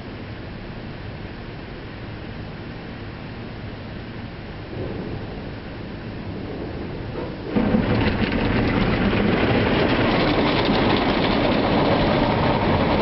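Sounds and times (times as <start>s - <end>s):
car wash spray and machinery: 0.0s - 13.0s.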